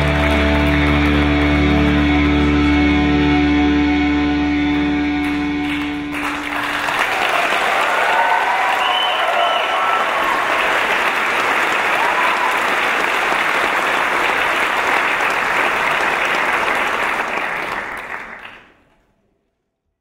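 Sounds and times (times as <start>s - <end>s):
audience applauding: 0.0s - 3.7s, 4.4s - 18.9s.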